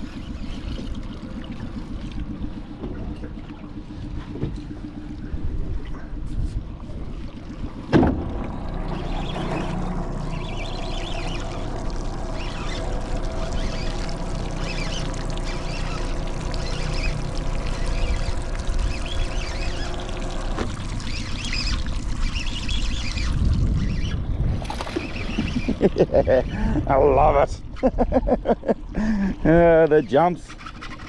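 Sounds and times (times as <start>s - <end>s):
boat motor hum: 0.0s - 31.0s
water lapping against hull: 0.0s - 31.0s
wind rumble: 1.0s - 28.8s.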